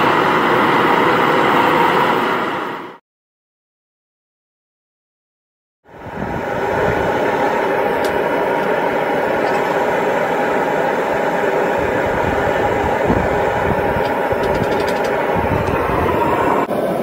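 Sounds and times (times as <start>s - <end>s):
furnace burner roaring: 0.0s - 3.0s, 5.9s - 17.0s.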